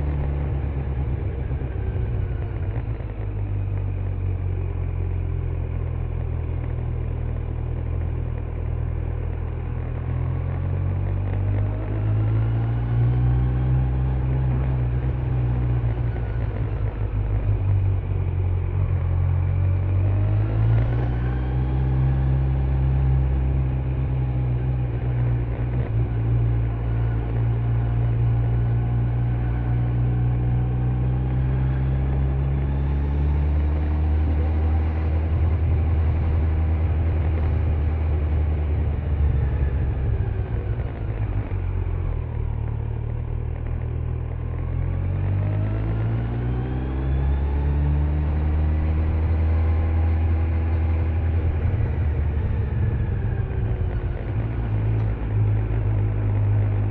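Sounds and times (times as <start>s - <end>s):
motorcycle engine accelerating: 0.0s - 56.9s
road noise: 0.0s - 56.9s.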